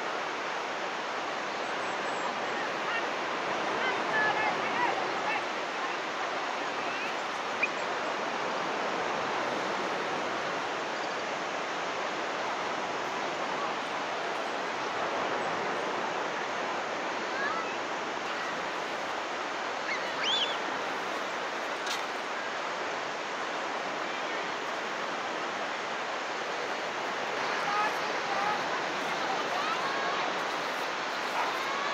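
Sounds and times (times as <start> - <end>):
ocean surf breaking: 0.0 - 31.9.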